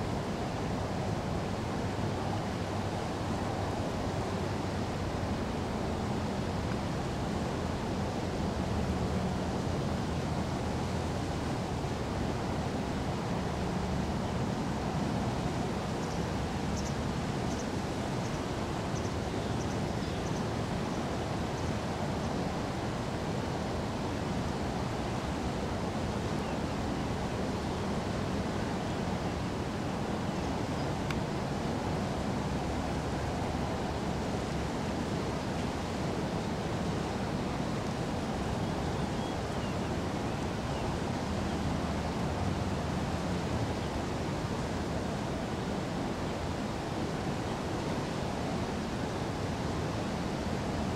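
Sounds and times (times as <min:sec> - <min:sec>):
river water flowing: 0:00.0 - 0:50.9.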